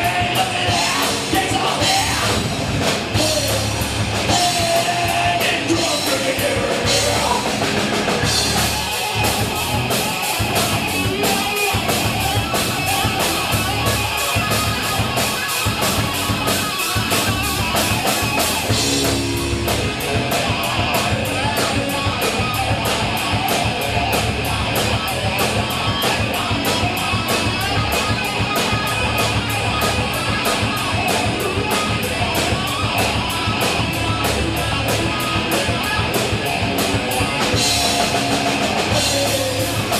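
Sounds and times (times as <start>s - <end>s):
rock song with drums and guitar: 0.0s - 39.9s.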